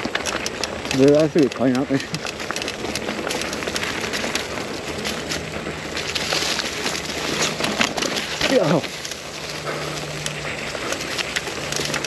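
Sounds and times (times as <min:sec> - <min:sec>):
bike tyre and frame rattle: 0:00.0 - 0:12.0
sticks crackling under tyres: 0:00.0 - 0:12.0.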